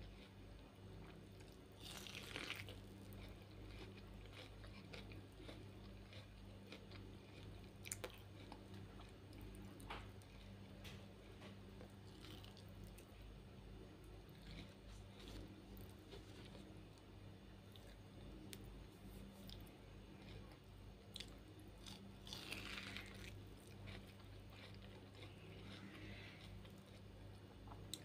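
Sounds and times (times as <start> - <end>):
chewing corn on the cob: 0.0 - 16.8, 17.7 - 28.0.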